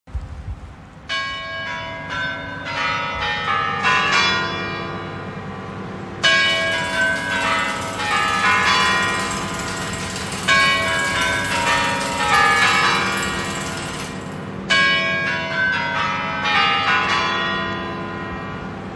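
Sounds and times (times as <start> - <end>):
tower clock bells chiming: 1.1 - 5.5, 6.2 - 18.8.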